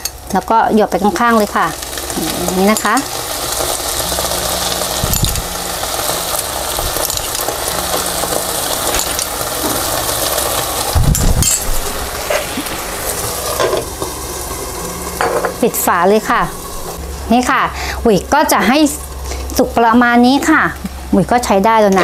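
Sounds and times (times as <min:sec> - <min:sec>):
eggs sizzling in oil: 0:00.0 - 0:21.6.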